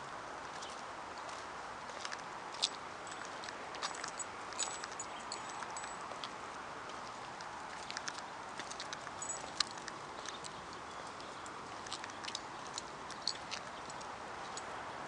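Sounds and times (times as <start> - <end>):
city noise: 0.0 - 15.0
light clicks and ticks: 2.0 - 14.7.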